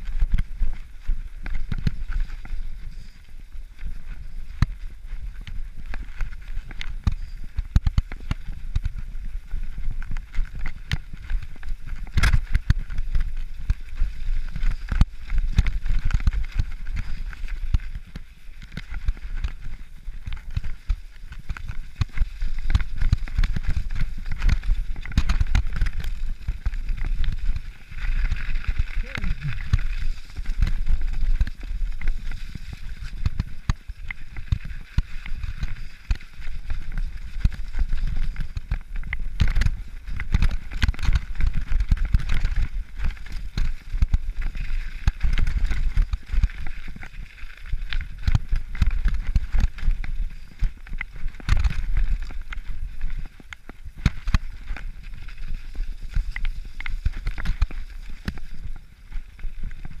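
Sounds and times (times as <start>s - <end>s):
wind and tyres rumbling: 0.0s - 60.0s
bike knocks and rattles: 3.8s - 60.0s.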